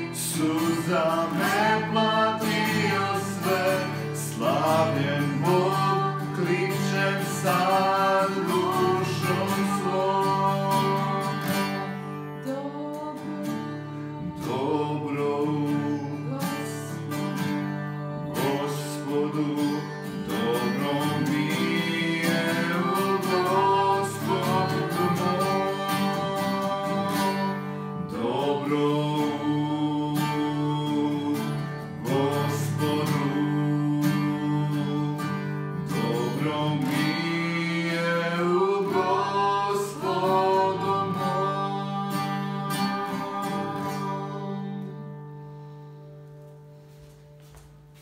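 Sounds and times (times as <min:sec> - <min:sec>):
man and woman singing: 0:00.0 - 0:45.2
acoustic guitar strumming chords: 0:00.0 - 0:48.0.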